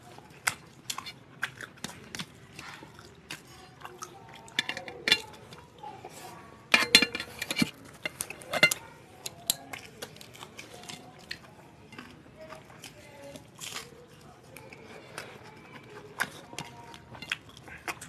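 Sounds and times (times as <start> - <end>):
chewing and mouth clicks: 0.0 - 18.0
fingers working rice on plates: 0.0 - 18.0.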